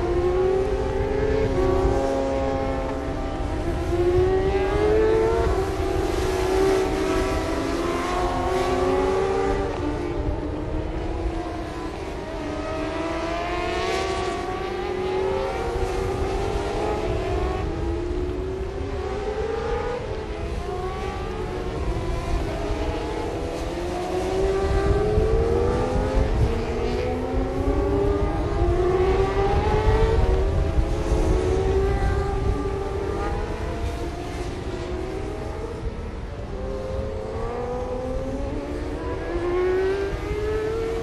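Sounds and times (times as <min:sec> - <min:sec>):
motorcycle engines accelerating: 0:00.0 - 0:41.0.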